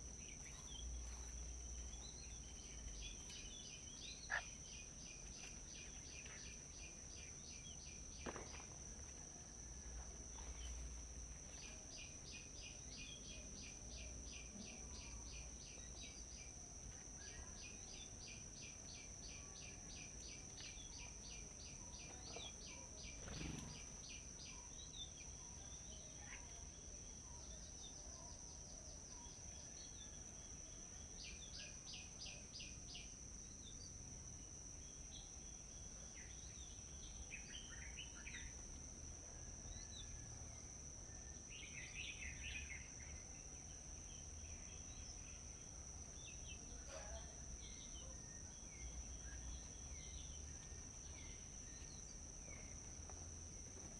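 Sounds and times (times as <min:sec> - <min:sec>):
small birds chirping: 0:00.0 - 0:09.0, 0:09.9 - 0:34.1, 0:41.2 - 0:53.9.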